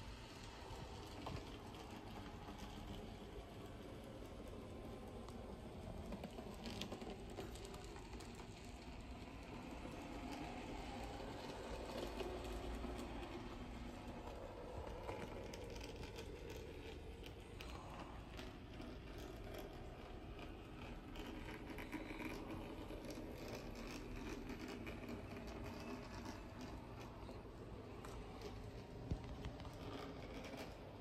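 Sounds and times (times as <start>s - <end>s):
wheels clicking on track: 0.0s - 31.0s.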